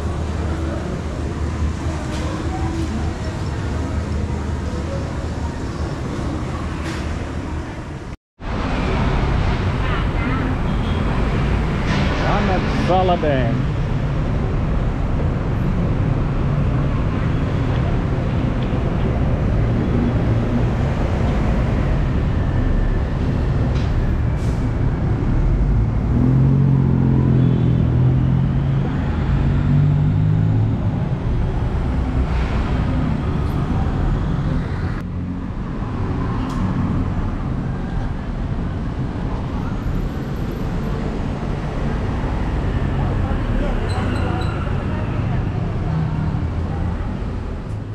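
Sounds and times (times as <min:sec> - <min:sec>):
loud vehicle engine: 0:00.0 - 0:47.9
road traffic rumble: 0:00.0 - 0:47.9.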